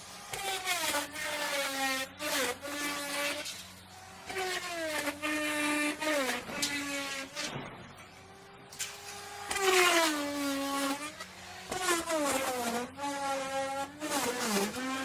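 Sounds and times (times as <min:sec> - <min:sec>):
wood router motor whine: 0:00.0 - 0:15.0.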